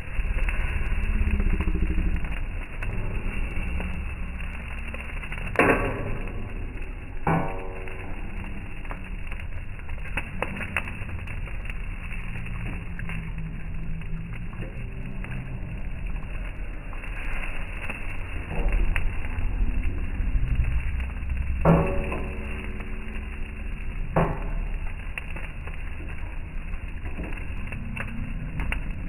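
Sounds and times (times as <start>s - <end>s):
beef sizzling on a grill: 0.0s - 29.0s
fat popping and crackling: 0.0s - 29.0s.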